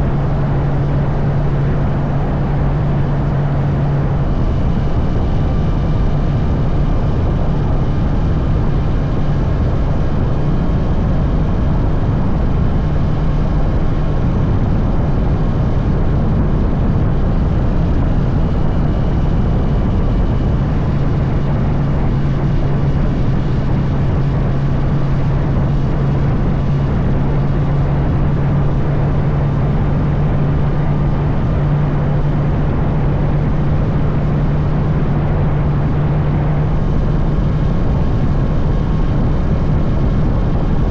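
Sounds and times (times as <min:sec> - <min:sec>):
motorcycle engine cruising: 0:00.0 - 0:40.9
wind and road noise: 0:00.0 - 0:40.9.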